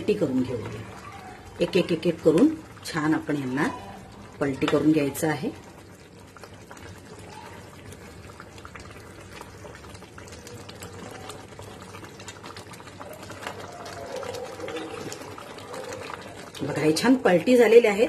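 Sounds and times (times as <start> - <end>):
thick gravy bubbling in a pot: 0.0 - 18.0.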